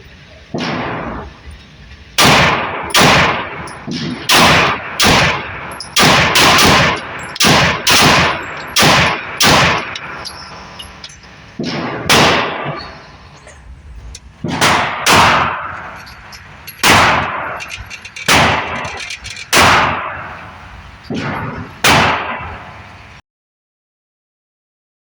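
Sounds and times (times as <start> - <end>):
pistol shots: 0.5 - 1.4, 2.2 - 13.4, 14.4 - 22.8
ringing echo of gunshots: 0.5 - 1.4, 2.2 - 13.4, 14.4 - 23.0.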